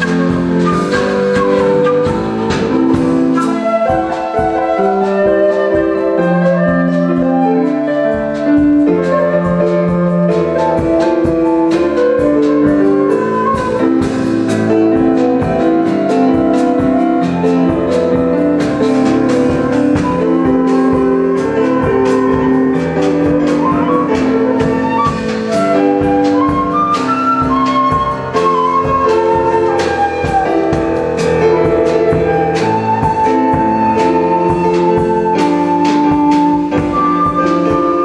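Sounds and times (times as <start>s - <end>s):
drum kit beat: 0.0s - 38.0s
flute playing folk melody: 0.0s - 38.0s
stage piano: 0.0s - 38.0s.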